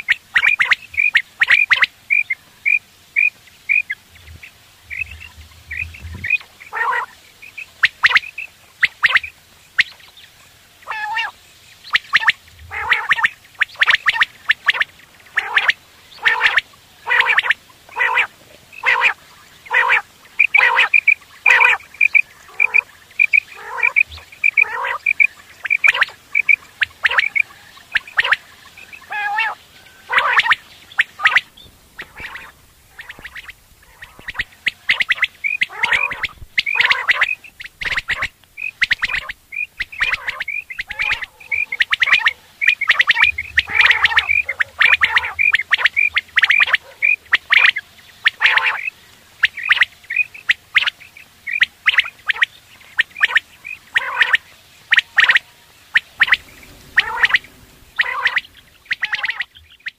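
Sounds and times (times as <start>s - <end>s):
harsh quail calls: 0.0s - 59.9s
quails chirping: 0.0s - 59.9s.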